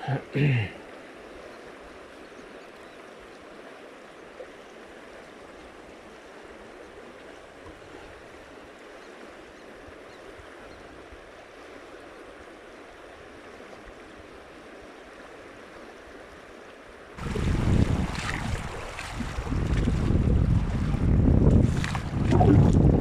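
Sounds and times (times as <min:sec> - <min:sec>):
river flowing over gravel: 0:00.0 - 0:23.0.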